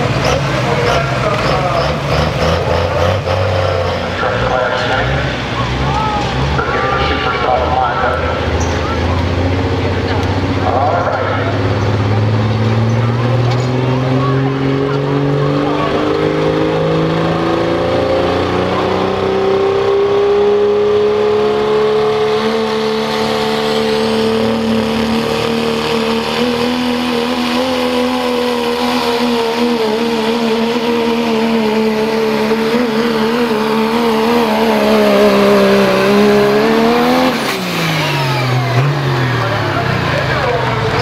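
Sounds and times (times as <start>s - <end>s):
diesel truck engine droning: 0.0s - 41.0s.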